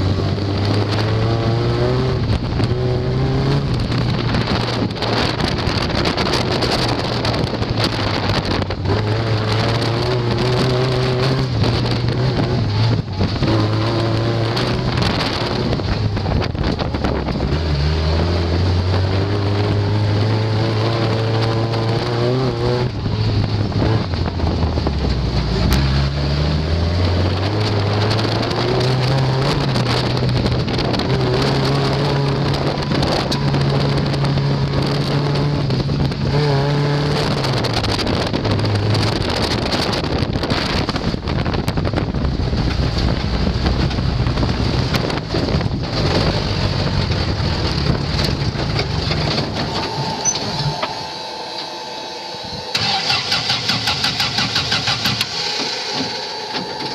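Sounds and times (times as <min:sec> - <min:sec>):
race car engine revving: 0:00.0 - 0:56.9
rushing noise: 0:00.0 - 0:56.9.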